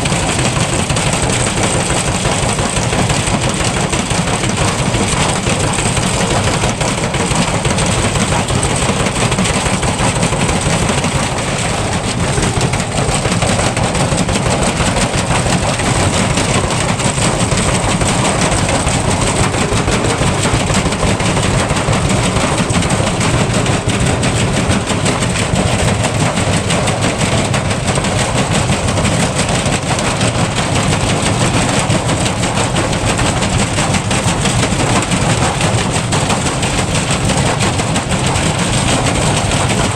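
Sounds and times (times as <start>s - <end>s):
unbalanced drum clattering and banging: 0.0s - 39.9s
washing machine spinning rumble: 0.0s - 39.9s.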